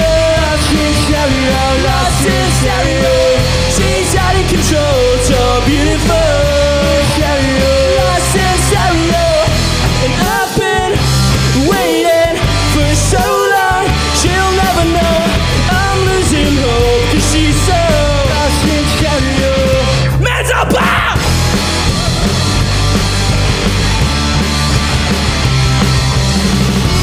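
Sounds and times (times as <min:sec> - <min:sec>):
punk rock band playing live: 0:00.0 - 0:27.0.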